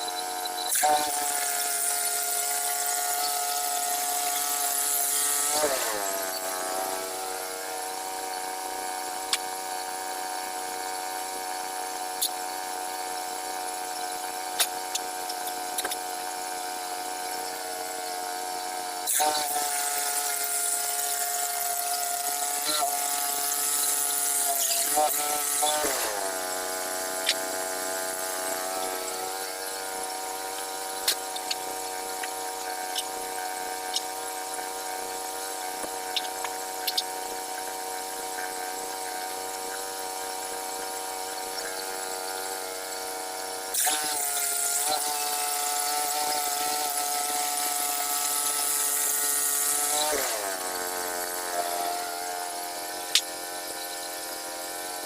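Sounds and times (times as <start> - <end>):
sawmill gasoline engine running: 0.0 - 55.0.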